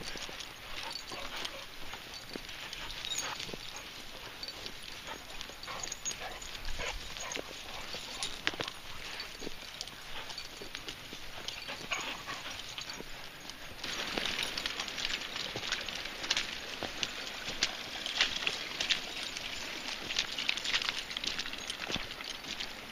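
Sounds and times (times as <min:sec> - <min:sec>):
dog paws clicking: 0:00.0 - 0:22.9
footsteps crunching on path: 0:00.0 - 0:22.9.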